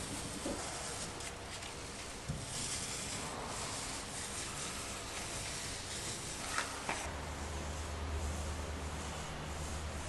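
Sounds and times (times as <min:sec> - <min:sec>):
paint roller rustling hiss: 0:00.0 - 0:10.0.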